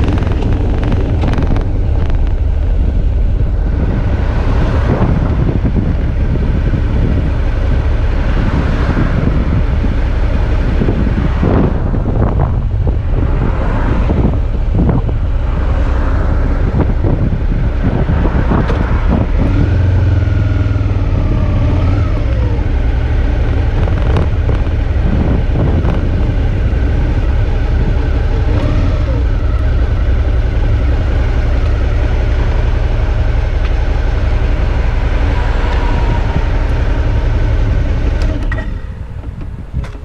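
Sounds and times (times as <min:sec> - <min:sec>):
motorcycle engine humming: 0:00.0 - 0:40.0
wind buffeting microphone: 0:00.0 - 0:40.0.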